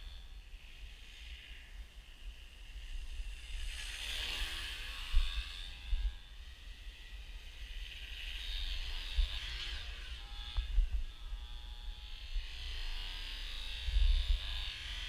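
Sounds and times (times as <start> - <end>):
electric plane motor whining: 0.0 - 15.0
wind noise on microphone: 0.0 - 15.0.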